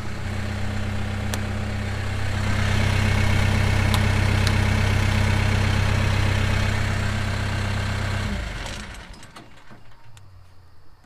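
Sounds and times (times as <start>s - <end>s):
tractor diesel engine idling: 0.0s - 10.3s.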